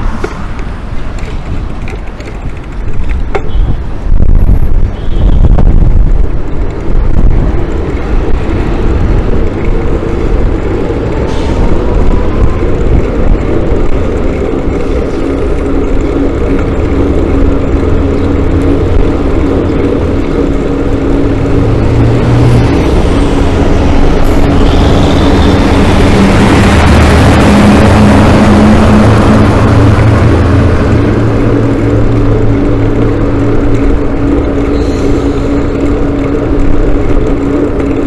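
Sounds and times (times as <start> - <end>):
low engine hum: 0.0 - 38.0
vehicle road rumble: 0.0 - 38.0.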